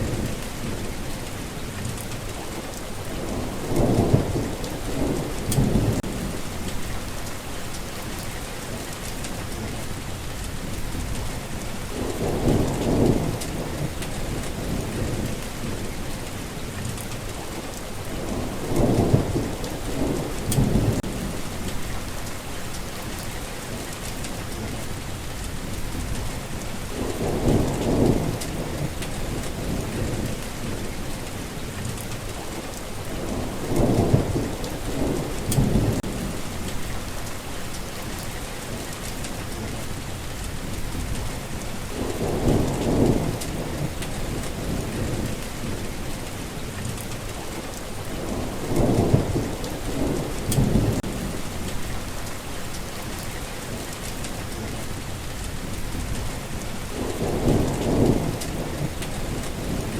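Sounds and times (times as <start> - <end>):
thunder rumbling: 0.0 - 2.2, 3.0 - 24.8, 25.5 - 59.9
rain pattering: 0.0 - 59.9.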